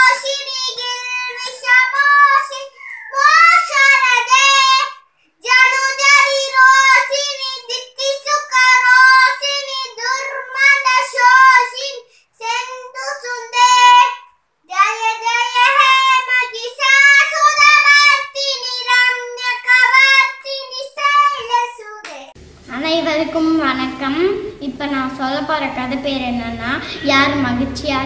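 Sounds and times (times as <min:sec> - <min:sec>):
girl singing: 0:00.0 - 0:23.3.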